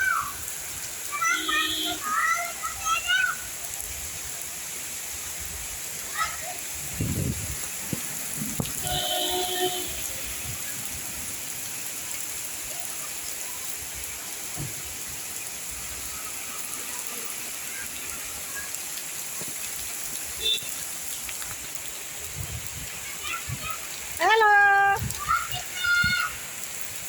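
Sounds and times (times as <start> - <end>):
rain hissing: 0.0 - 27.0.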